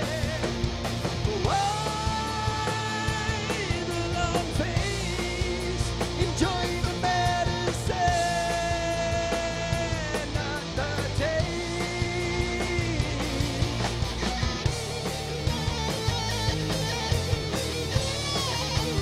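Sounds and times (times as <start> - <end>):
electric guitar sliding lead notes: 0.0 - 19.0
metal band playing live: 0.0 - 19.0.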